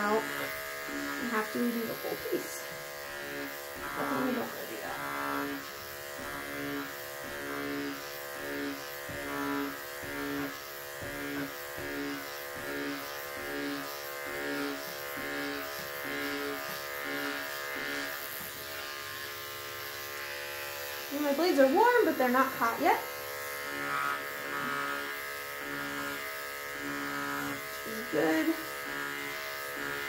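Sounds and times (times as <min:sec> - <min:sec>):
electric clippers buzzing: 0:00.0 - 0:30.0.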